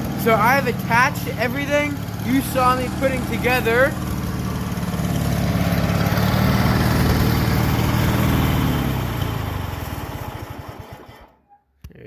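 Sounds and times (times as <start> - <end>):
lawn mower engine running: 0.0 - 11.4.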